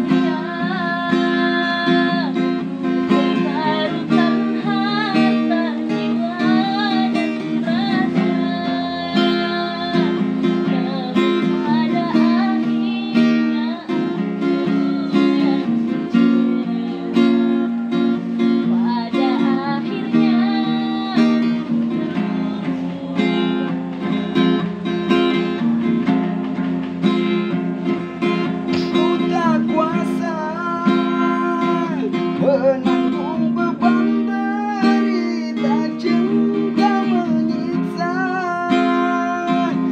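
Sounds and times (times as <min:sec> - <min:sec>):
person singing: 0:00.0 - 0:25.8, 0:27.9 - 0:39.9
acoustic guitar: 0:00.0 - 0:39.9.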